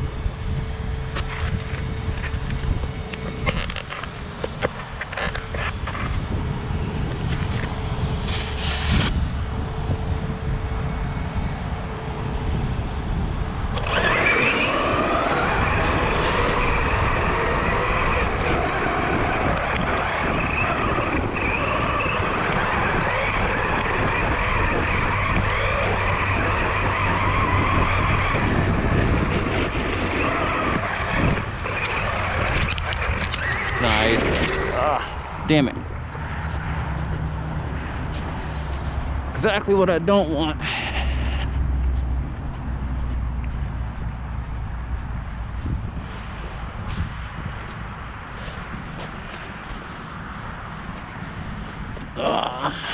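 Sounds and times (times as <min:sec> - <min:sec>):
electric motor whining: 0:00.0 - 0:46.5.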